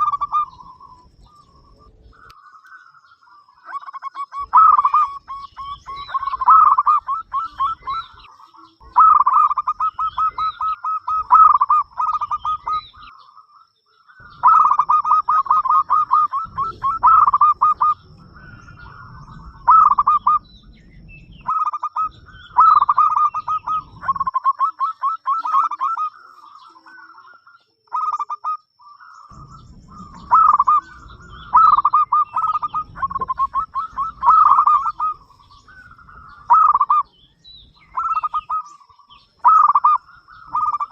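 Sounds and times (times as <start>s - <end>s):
dove cooing: 0.0s - 13.5s, 14.2s - 40.9s.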